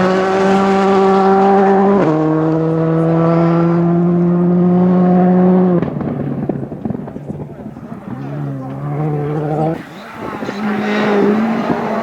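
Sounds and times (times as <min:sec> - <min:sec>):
rally car engine running loud: 0:00.0 - 0:12.0.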